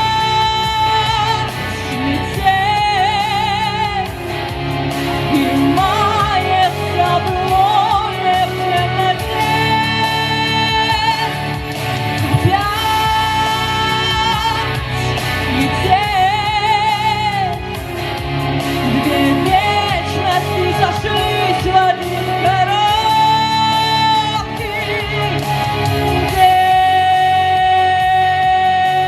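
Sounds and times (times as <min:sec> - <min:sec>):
instrumental backing: 0:00.0 - 0:29.0
woman singing a pop ballad: 0:00.0 - 0:29.0.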